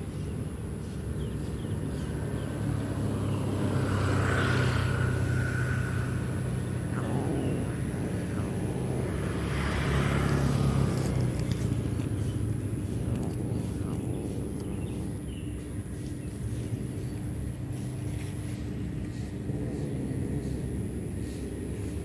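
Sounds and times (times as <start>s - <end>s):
vehicle engine hum: 0.0s - 22.0s.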